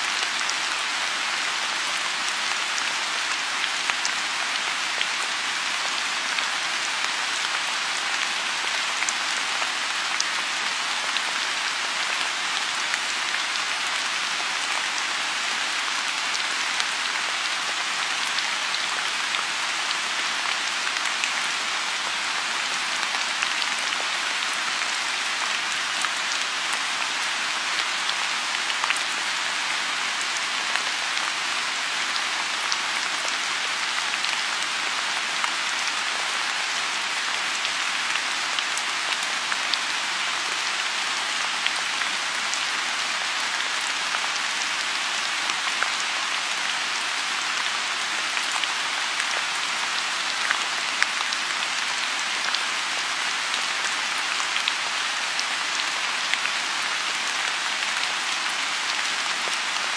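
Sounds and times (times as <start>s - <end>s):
rain falling on a pond: 0.0s - 59.9s.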